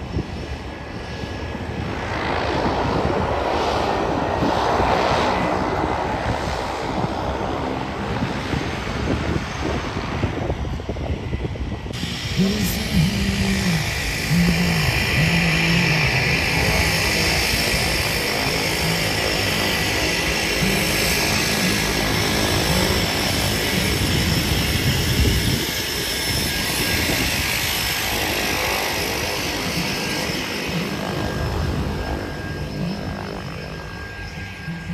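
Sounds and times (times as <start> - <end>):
turboprop plane taxiing: 0.0 - 34.9.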